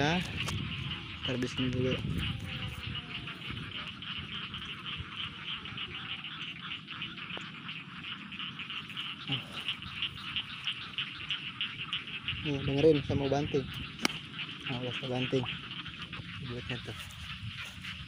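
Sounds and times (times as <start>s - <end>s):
frogs calling in chorus: 0.0s - 18.0s.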